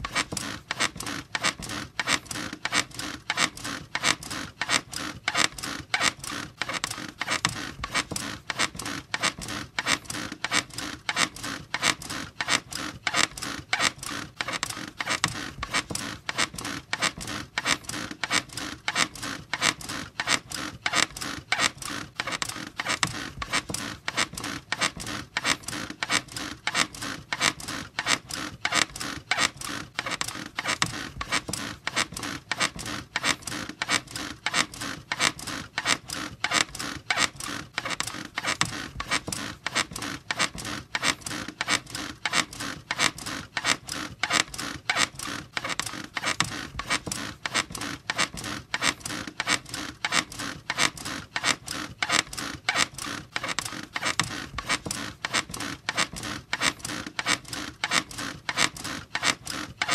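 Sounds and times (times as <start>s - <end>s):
bed squeaking rhythmically: 0.0s - 59.9s.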